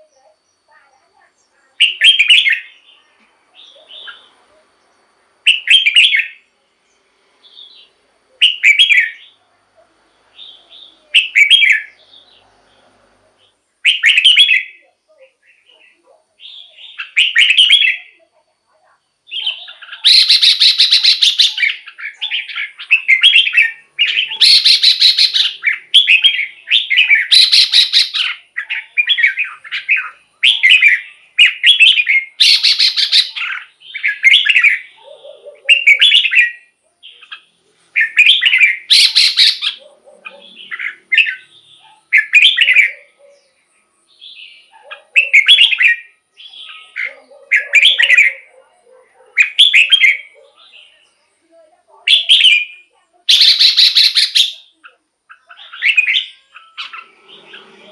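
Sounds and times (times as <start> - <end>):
bird singing warbling phrases: 0.0 - 9.5, 10.1 - 57.9.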